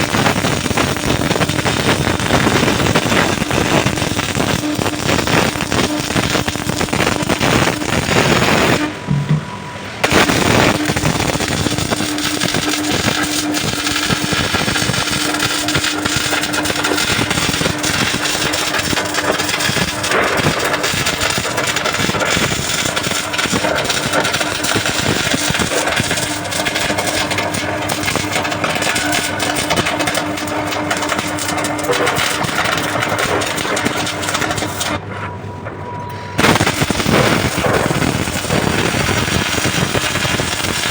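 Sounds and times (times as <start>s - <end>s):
welding arc crackling: 0.0s - 9.0s, 10.0s - 35.0s, 36.4s - 40.9s.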